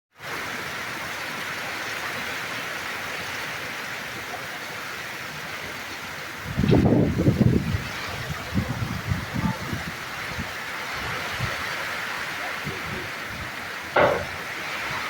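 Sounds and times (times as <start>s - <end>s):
steady rain falling: 0.2s - 15.0s.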